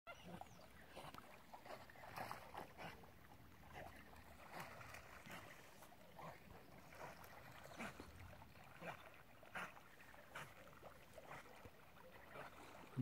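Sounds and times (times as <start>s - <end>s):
dog swimming splashing water: 0.1s - 13.0s.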